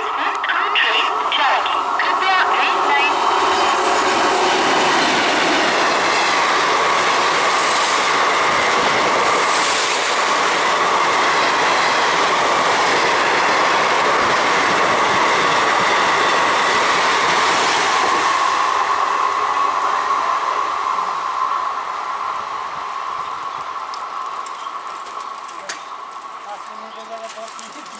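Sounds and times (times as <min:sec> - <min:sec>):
train wheels rushing on rail: 0:00.0 - 0:27.9.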